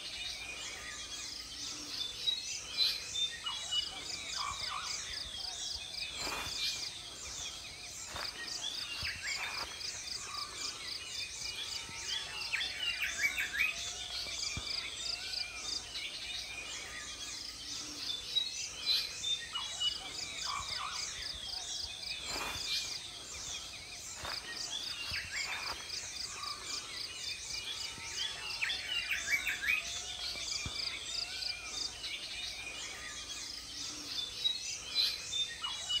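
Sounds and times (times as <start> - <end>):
birds chirping and calling: 0.0 - 36.0
frogs chorus pulsing: 0.0 - 36.0.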